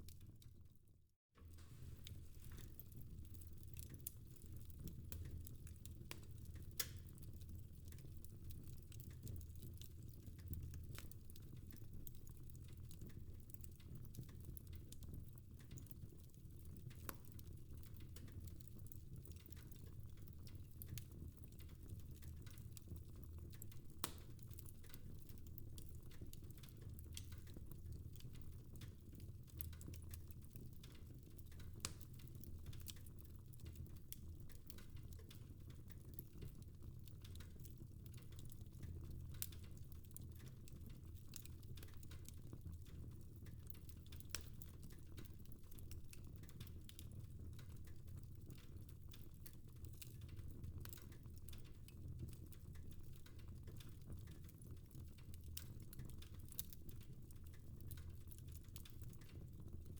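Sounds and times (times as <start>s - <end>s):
wood fire crackling: 1.4s - 59.9s.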